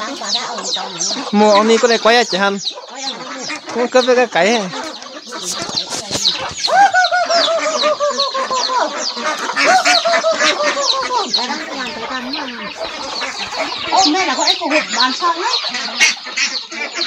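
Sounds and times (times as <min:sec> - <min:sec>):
chicks peeping: 0:00.0 - 0:17.0
hens clucking: 0:00.0 - 0:17.0.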